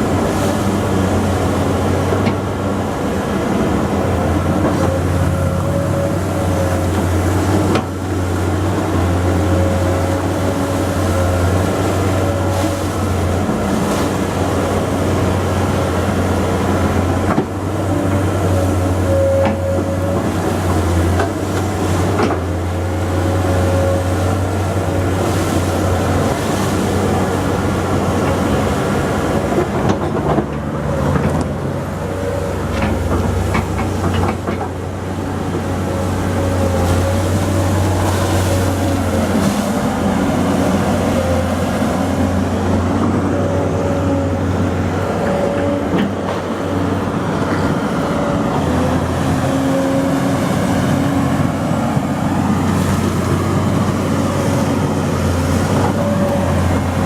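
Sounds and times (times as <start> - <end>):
excavator engine drone: 0.0 - 57.0.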